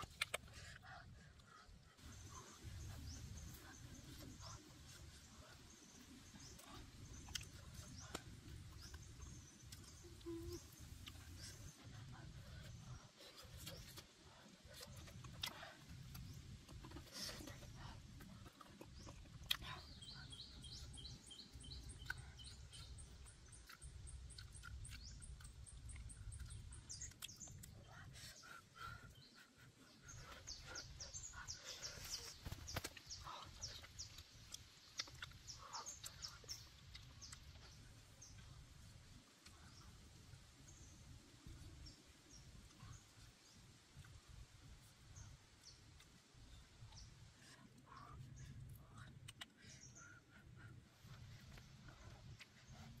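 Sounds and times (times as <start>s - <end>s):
faint birdsong chirps: 0.0s - 53.0s.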